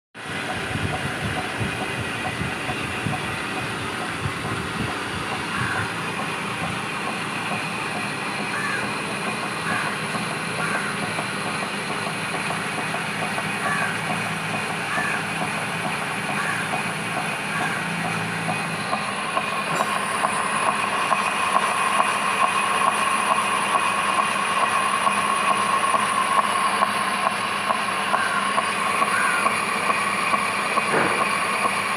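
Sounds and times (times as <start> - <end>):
metal lathe whine: 0.2 - 31.9
fast fine rattle: 0.4 - 31.9.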